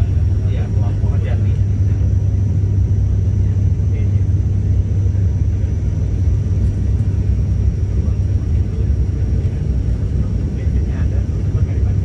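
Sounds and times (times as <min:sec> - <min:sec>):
turboprop engine drone in cabin: 0:00.0 - 0:12.0.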